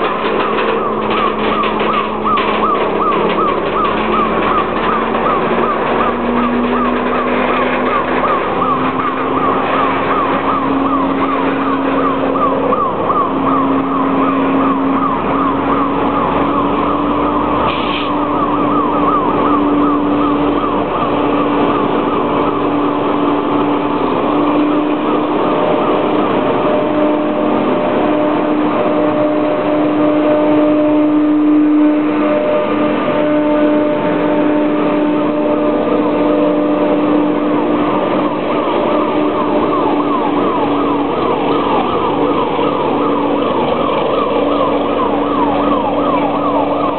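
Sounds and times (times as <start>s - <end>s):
diesel locomotive engine passing: 0.0s - 46.9s.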